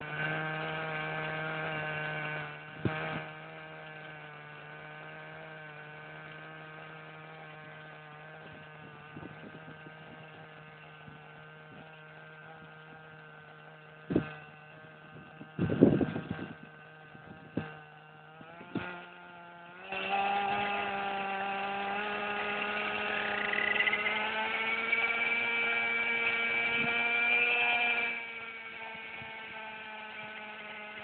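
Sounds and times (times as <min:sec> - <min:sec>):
model helicopter engine whining: 0:00.0 - 0:31.0.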